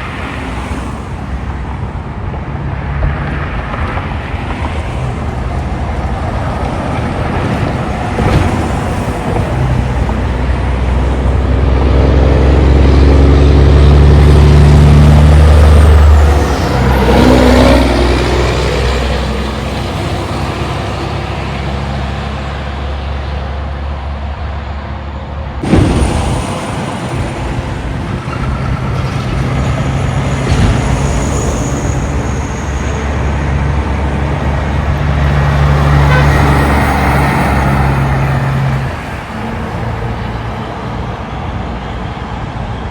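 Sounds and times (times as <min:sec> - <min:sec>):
diesel trucks driving past: 0:00.0 - 0:42.9
traffic: 0:00.0 - 0:42.9.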